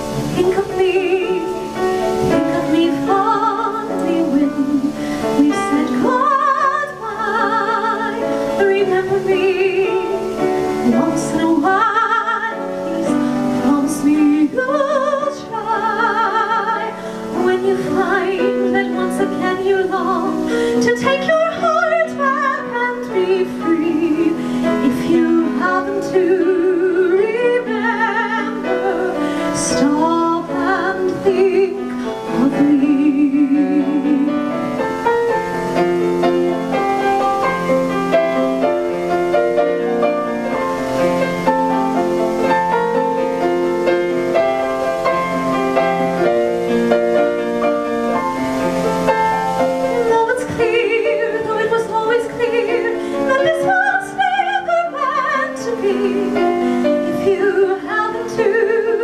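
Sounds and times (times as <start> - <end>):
grand piano: 0.0 - 59.0
soprano singing ballad: 0.0 - 59.0.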